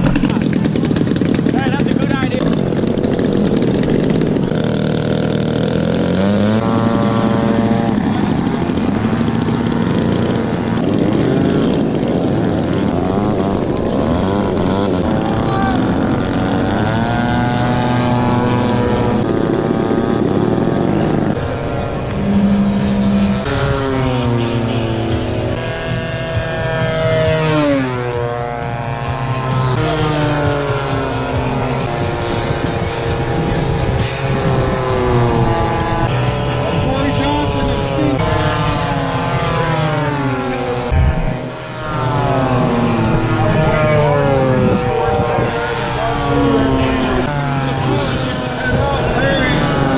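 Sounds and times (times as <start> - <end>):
model airplane engine and propeller: 0.0 - 49.9.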